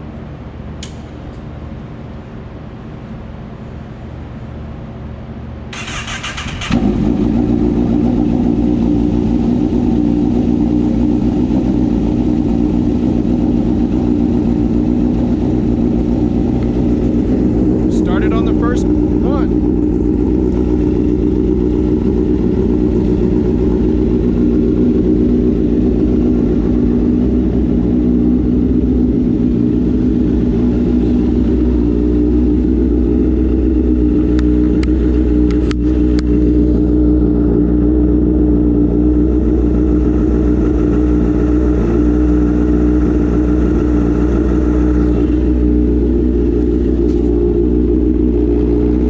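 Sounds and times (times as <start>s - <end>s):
motorcycle engine idling: 5.7s - 49.0s.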